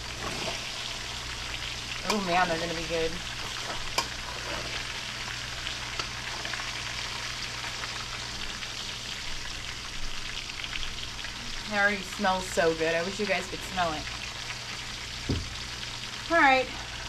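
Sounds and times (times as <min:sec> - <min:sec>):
fish crackling in hot oil: 0:00.0 - 0:17.0.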